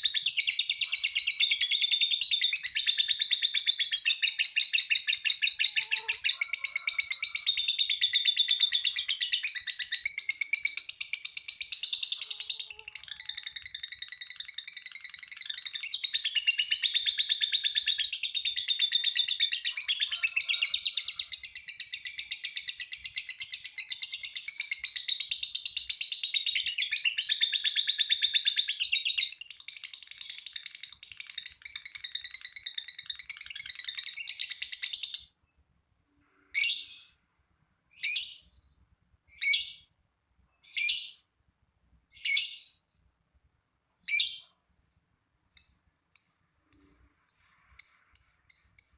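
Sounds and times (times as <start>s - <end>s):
bird chattering trill: 0.0s - 35.2s, 44.1s - 48.9s.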